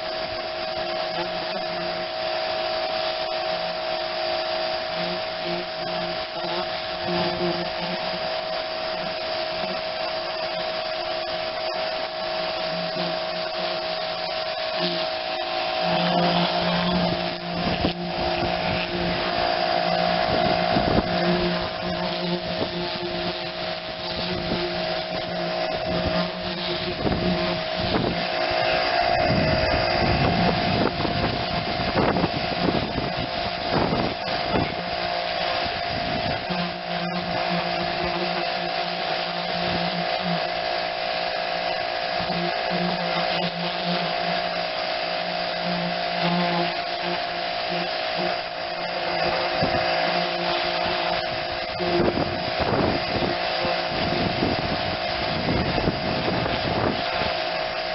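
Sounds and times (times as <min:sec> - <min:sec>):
pressure washer running: 0:00.0 - 0:57.9.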